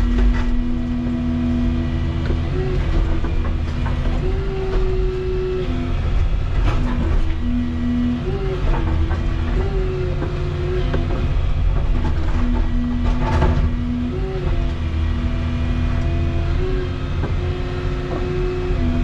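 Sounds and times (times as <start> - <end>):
excavator diesel engine running: 0.0 - 19.0
hydraulic whine: 0.0 - 19.0.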